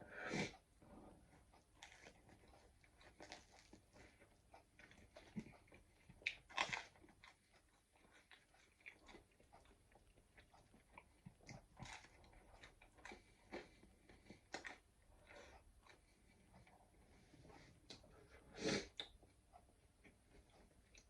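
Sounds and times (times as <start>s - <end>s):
person chewing crispy pizza: 1.3s - 19.3s.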